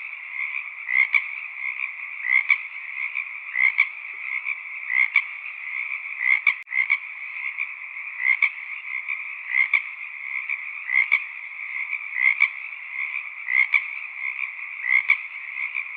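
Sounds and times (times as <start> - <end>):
frogs calling: 0.0 - 15.9.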